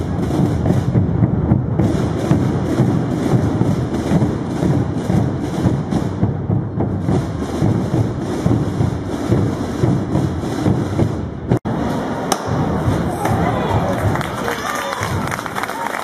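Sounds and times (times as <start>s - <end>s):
massed drums rumbling: 0.0s - 15.6s.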